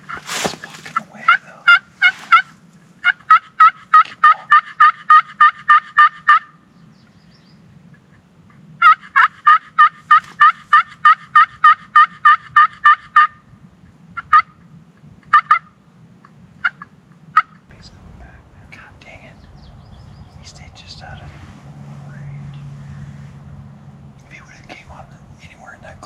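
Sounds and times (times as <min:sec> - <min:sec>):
wild turkey calls: 0:00.0 - 0:14.6, 0:15.2 - 0:23.3, 0:24.2 - 0:26.0.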